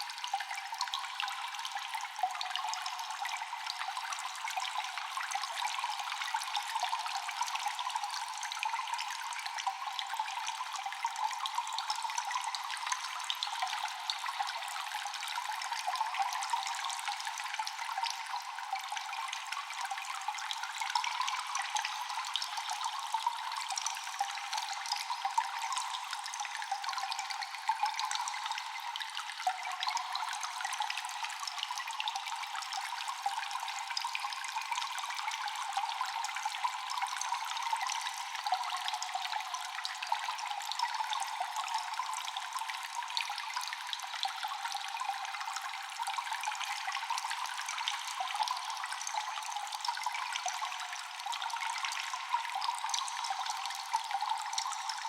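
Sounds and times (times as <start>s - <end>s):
water dripping in a cave: 0.0s - 55.0s.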